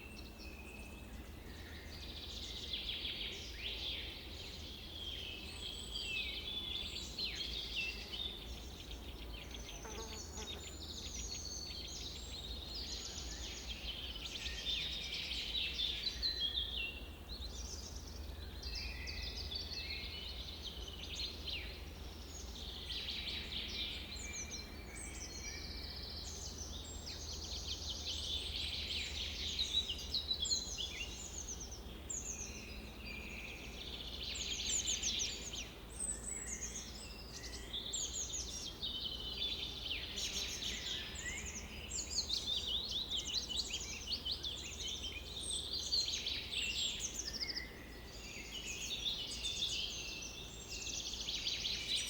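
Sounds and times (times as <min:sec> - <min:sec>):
songbirds chirping and trilling: 0:00.0 - 0:52.0.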